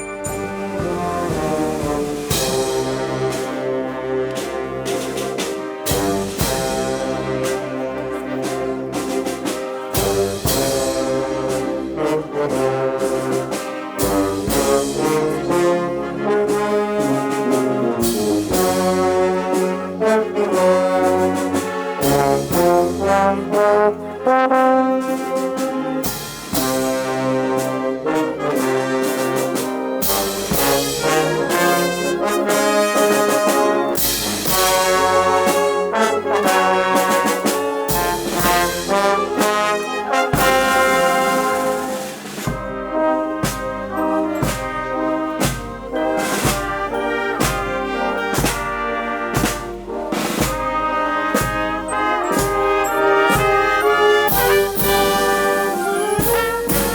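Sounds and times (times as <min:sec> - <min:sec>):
wind band playing a march: 0:00.0 - 0:56.9.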